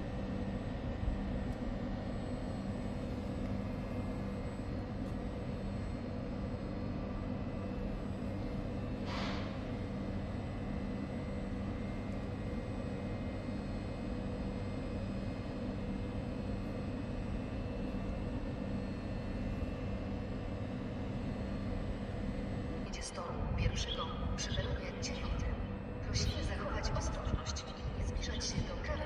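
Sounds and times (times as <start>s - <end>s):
low rumble and mechanical hum: 0.0s - 29.0s.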